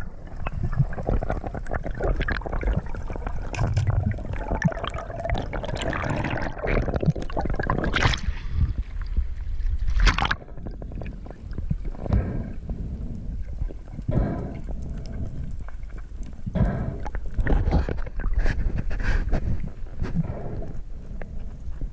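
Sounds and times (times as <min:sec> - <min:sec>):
water splashing and gurgling: 0:00.0 - 0:20.0.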